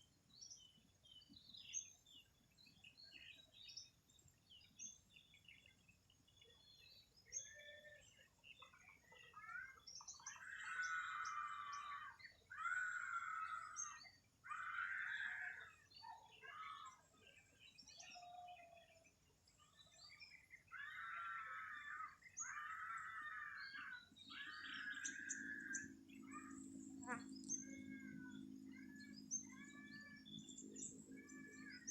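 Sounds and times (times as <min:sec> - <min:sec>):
birds chirping: 0:00.0 - 0:31.9
bird singing loud phrase: 0:00.4 - 0:31.9.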